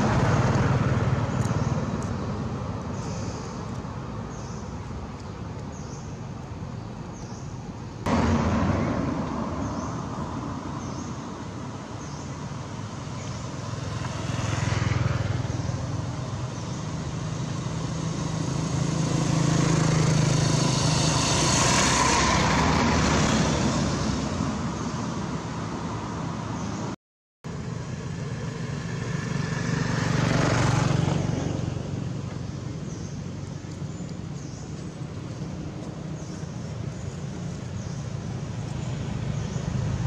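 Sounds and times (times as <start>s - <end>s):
low engine hum: 0.0s - 40.0s
vehicles passing: 0.0s - 40.0s.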